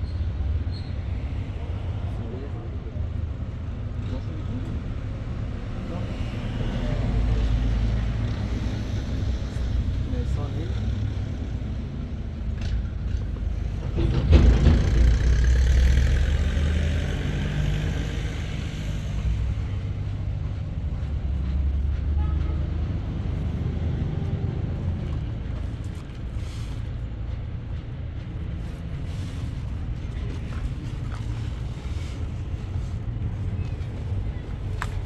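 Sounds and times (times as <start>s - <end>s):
vehicle engine drone: 3.4s - 35.0s.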